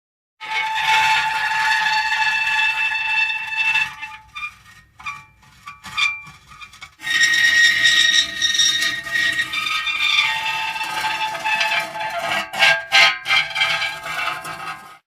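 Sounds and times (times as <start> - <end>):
metal creaking: 0.5 - 15.0.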